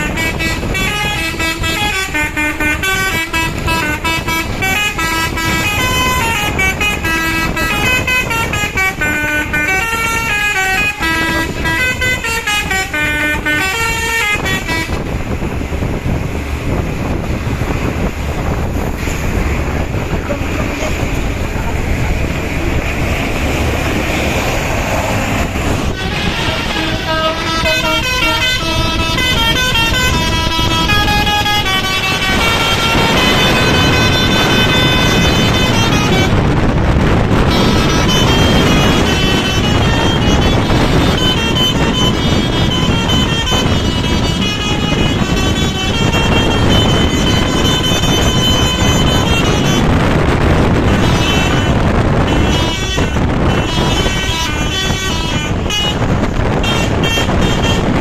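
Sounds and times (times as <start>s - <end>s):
multi-tone bus air horn tune: 0.0s - 58.0s
steady low rumble: 0.0s - 58.0s.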